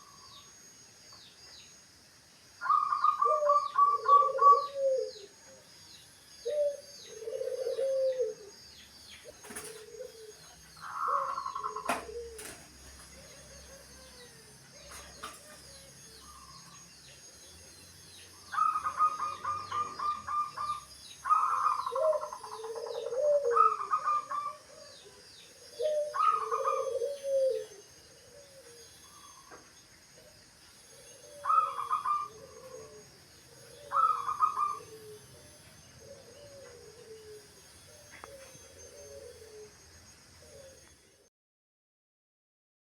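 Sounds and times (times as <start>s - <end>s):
small birds chirping: 0.0s - 41.0s
doves cooing: 2.6s - 5.7s, 6.4s - 17.3s, 18.2s - 40.9s.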